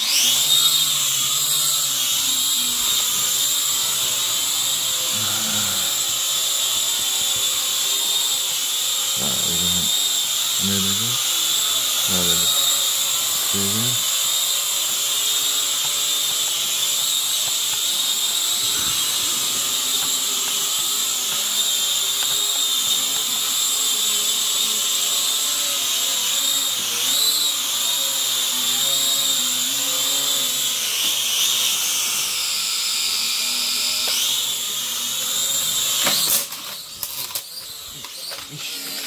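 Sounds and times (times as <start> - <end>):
toy quadcopter whine: 0.0 - 39.0.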